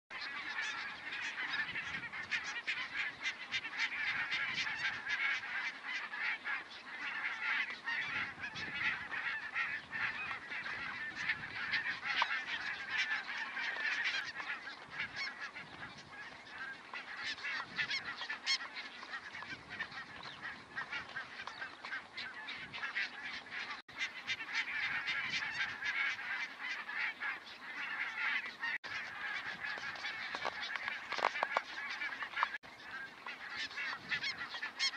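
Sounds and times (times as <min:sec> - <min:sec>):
flock of geese calling: 0:00.1 - 0:34.9.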